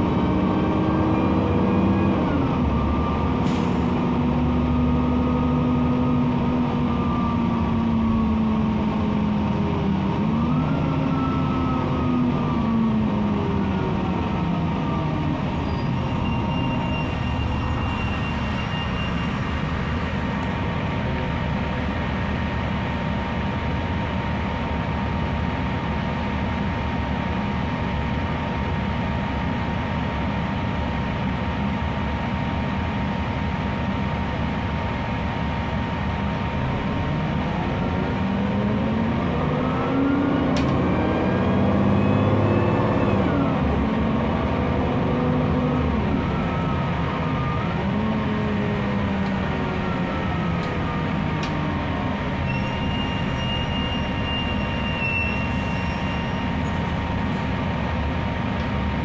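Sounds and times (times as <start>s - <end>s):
diesel bus engine: 0.0s - 59.0s.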